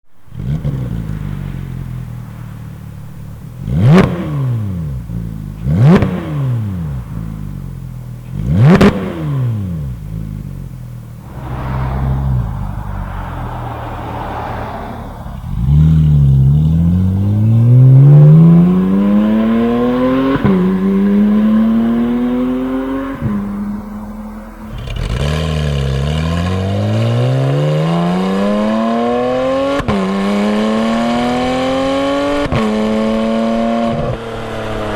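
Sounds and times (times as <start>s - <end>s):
sports car engine revving: 2.9s - 34.4s.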